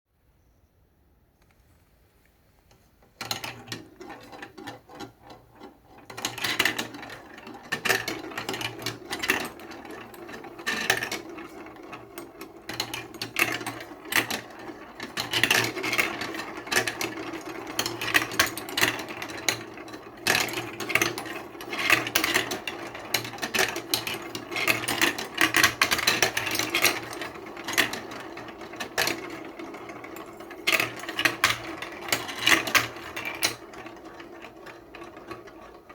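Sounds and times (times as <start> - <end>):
balls clattering down marble run: 3.2 - 35.9.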